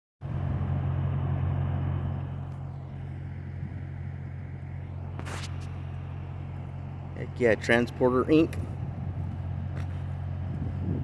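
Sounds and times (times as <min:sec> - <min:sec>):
truck engine idling: 0:00.2 - 0:11.0.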